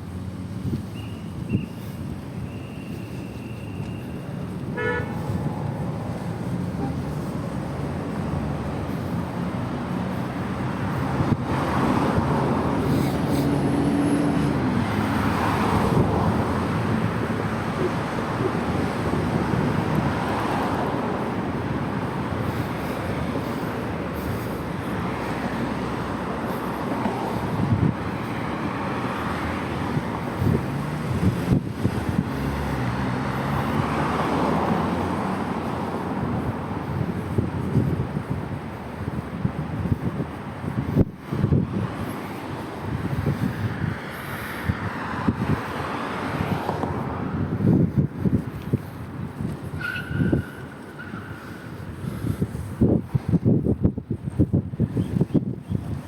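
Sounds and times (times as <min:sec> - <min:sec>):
cars passing: 0:00.0 - 0:56.0
road traffic rumble: 0:00.0 - 0:56.0.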